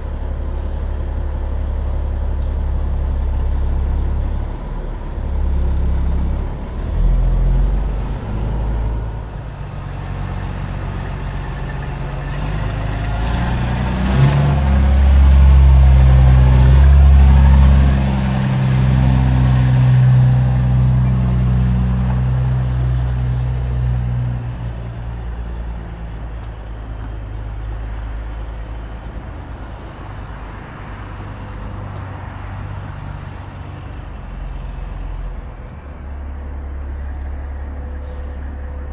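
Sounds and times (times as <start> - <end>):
diesel truck engine under load: 0.0 - 38.9.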